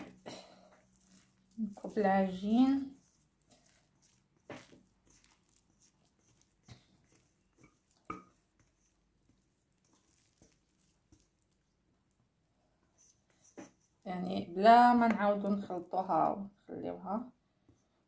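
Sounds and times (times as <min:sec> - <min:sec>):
soft dough squelches: 0:00.0 - 0:18.0.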